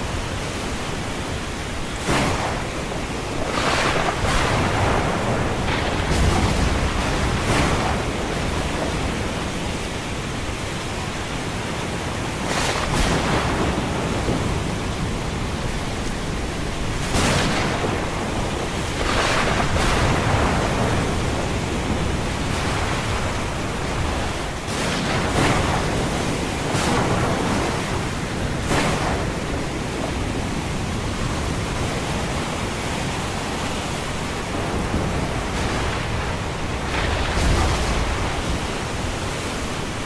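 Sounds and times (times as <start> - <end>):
ocean surf rushing: 0.0 - 40.0
waves breaking: 0.0 - 40.0.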